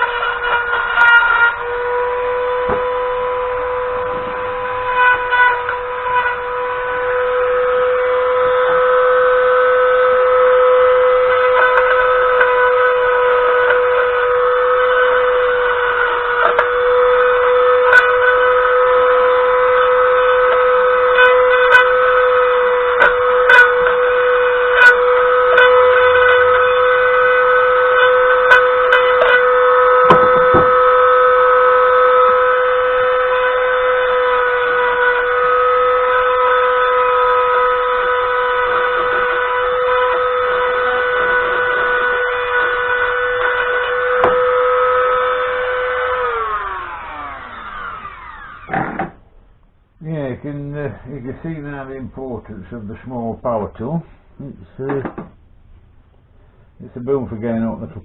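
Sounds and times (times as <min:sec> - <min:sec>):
rotary power tool whining: 0:00.0 - 0:49.4.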